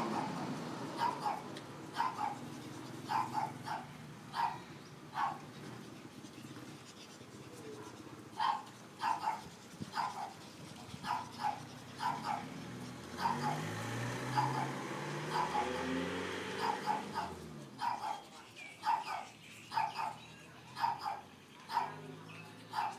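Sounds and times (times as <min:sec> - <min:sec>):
puppies yapping and barking: 0:00.0 - 0:22.9.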